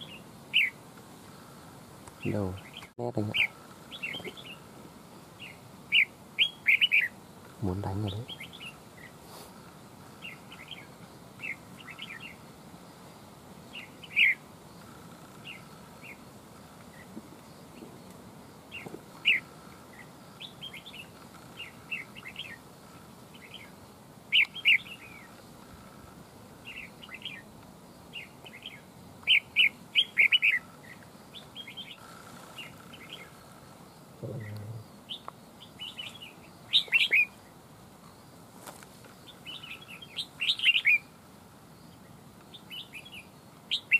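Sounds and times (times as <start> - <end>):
birds chirping and calling: 0.0 - 12.5, 13.6 - 27.5, 28.1 - 37.6, 39.0 - 41.2, 41.9 - 43.9.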